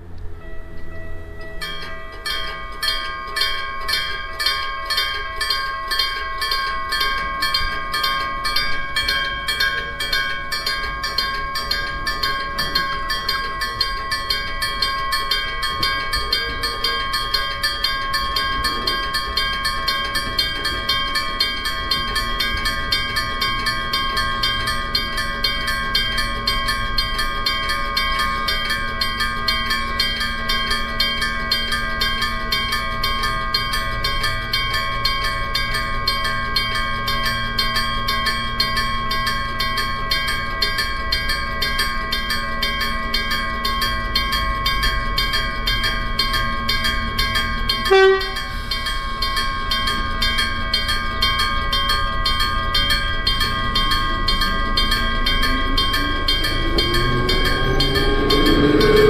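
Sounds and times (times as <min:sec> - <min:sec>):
train rumble: 0:00.0 - 0:59.0
level crossing bell ringing: 0:00.4 - 0:59.0.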